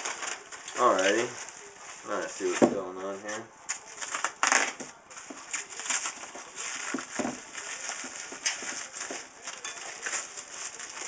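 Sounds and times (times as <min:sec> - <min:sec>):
bubble wrap crinkling: 0:00.0 - 0:11.0
knife cutting packaging: 0:00.0 - 0:11.0.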